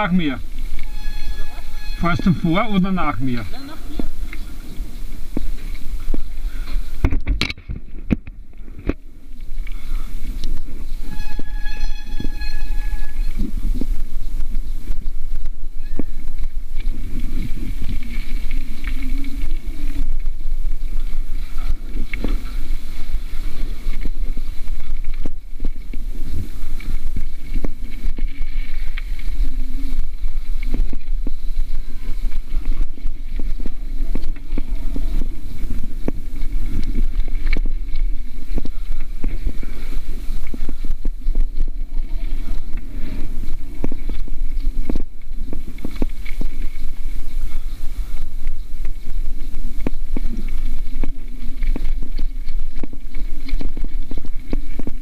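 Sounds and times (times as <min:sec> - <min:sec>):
tyre noise on dirt: 0:00.0 - 0:55.0
wind buffeting microphone: 0:00.0 - 0:55.0.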